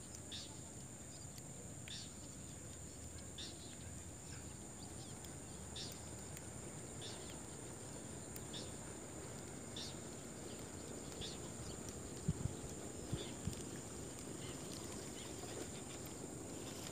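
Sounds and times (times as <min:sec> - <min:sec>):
high insect drone: 0:00.2 - 0:16.9.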